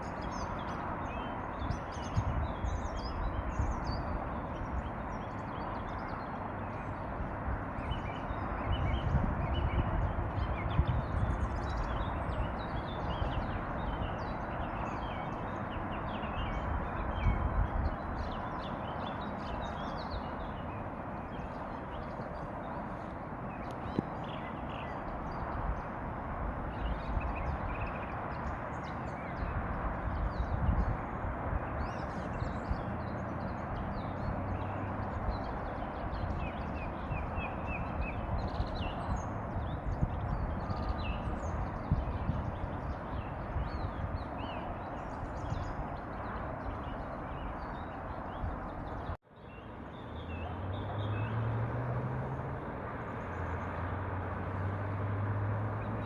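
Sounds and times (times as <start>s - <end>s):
small birds chirping: 0.0s - 51.5s.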